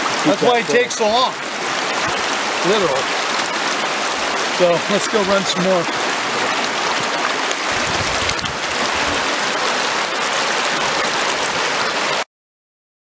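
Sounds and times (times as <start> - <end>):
river water rushing over rocks: 0.0 - 12.2.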